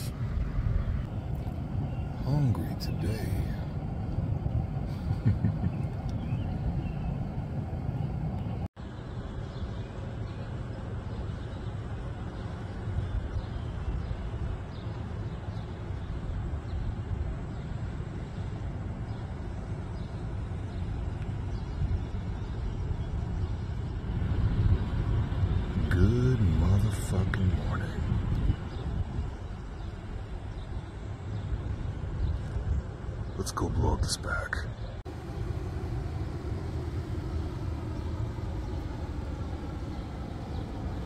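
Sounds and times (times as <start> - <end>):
outdoor background rumble: 0.0 - 41.0.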